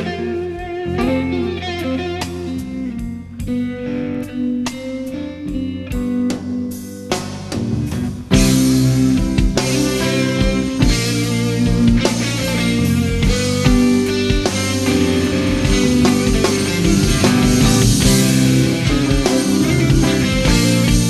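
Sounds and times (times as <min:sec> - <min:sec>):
electric guitar lines: 0:00.0 - 0:21.0
jazz-rock band playing: 0:00.0 - 0:21.0.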